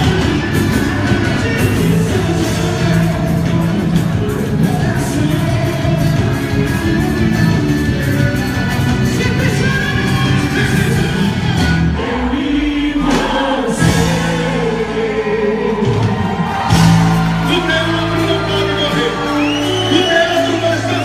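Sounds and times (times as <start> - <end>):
steady bass notes: 0.0 - 21.0.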